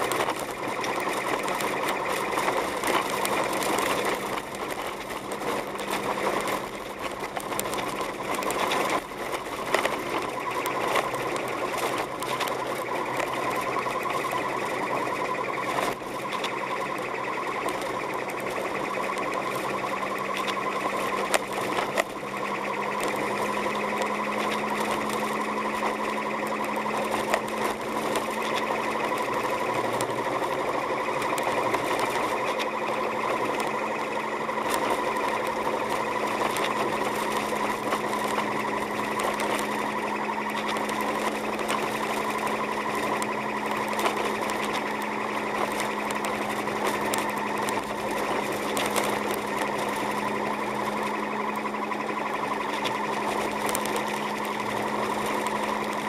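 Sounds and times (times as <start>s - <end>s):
car engine hum: 0.0s - 56.0s
rapid mechanical buzz: 0.0s - 56.0s.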